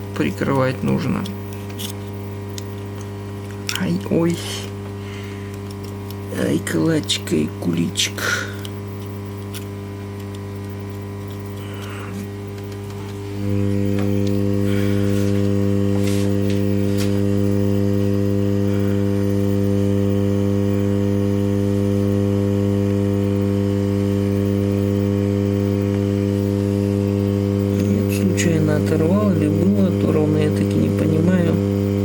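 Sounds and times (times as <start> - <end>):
hot-air blower humming: 0.0 - 32.0.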